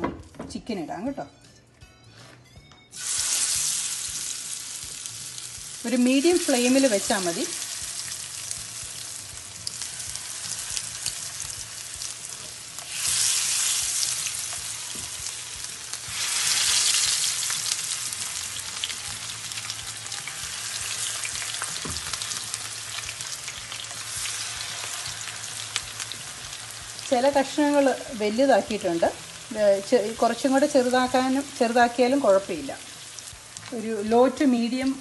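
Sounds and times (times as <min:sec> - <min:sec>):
chicken sizzling in hot oil: 0:03.0 - 0:35.0.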